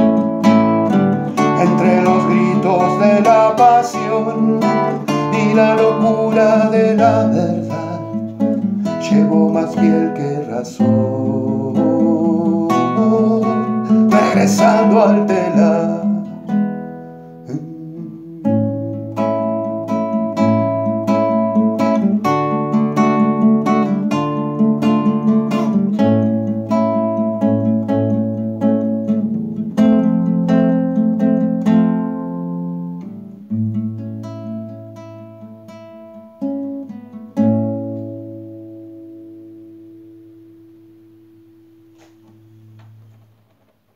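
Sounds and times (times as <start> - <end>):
classical guitar playing: 0.0 - 43.9.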